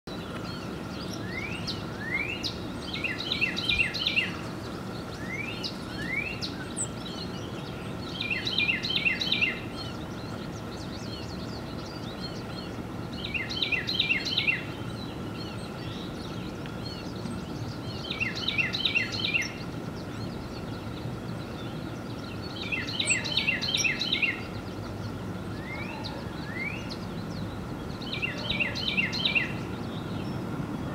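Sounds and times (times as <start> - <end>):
faint steady hum: 0.1 - 30.9
wren singing: 0.1 - 30.9.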